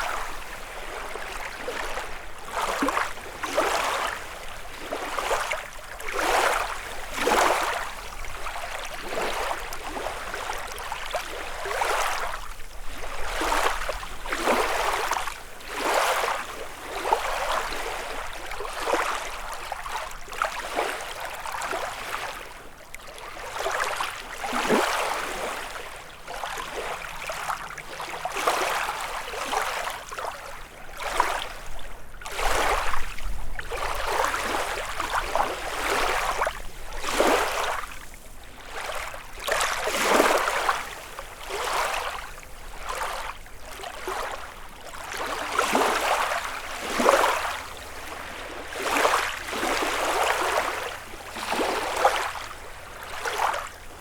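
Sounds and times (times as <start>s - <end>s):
small waves lapping on shore: 0.0s - 54.0s.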